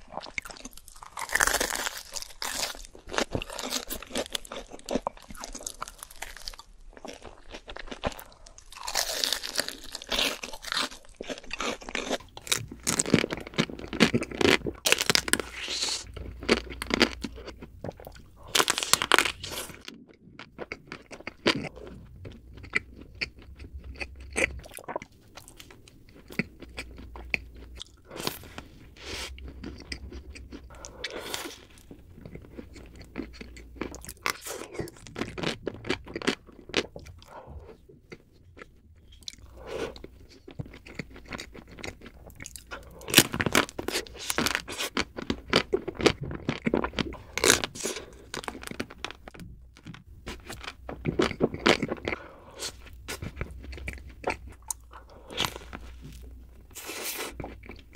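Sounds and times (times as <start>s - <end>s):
crunchy bites and chewing: 0.0s - 57.9s.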